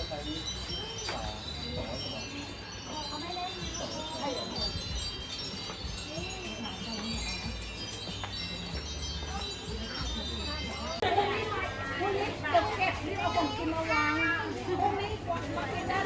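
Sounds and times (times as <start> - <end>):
faint crowd voices: 0.0 - 16.0
metal chimes ringing: 0.0 - 16.0.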